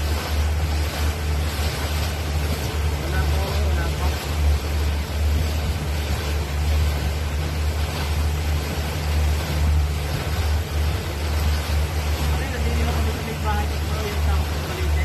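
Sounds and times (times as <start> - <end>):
boat engine humming: 0.0 - 15.0
wind and water rushing: 0.0 - 15.0.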